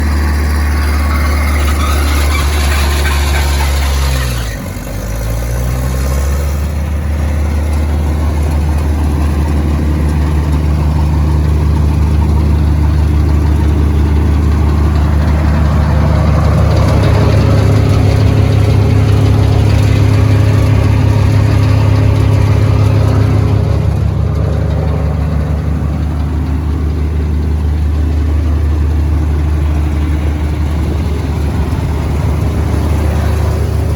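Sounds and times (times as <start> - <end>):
wood chipper diesel engine running: 0.0 - 33.9.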